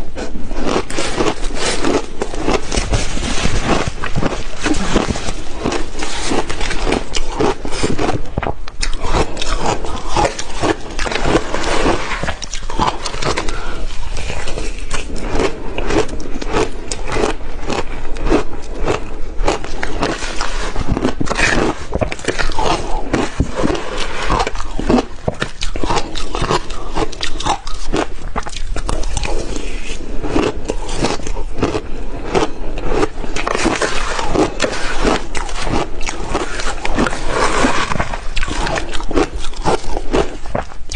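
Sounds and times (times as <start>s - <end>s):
ice crunched between teeth: 0.6s - 40.8s.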